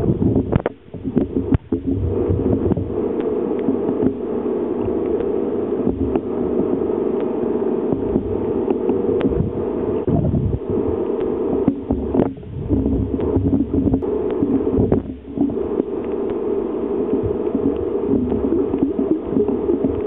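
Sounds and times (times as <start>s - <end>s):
muffled rumbling and rubbing: 0.0s - 20.0s.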